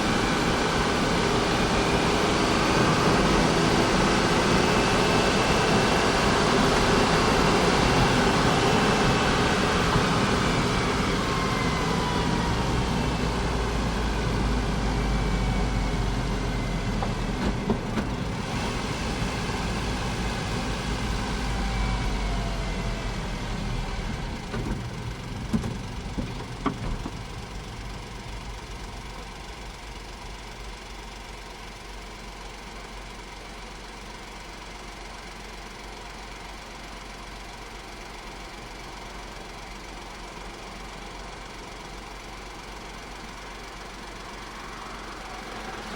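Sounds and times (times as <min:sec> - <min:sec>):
car engine slowing to idle: 0:00.0 - 0:45.9.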